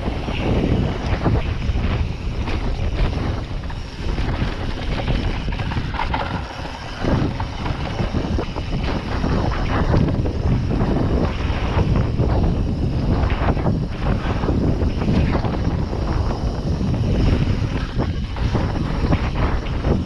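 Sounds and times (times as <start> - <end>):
bike knocking and rattling: 0.0 - 20.0
wind buffeting microphone: 0.0 - 20.0.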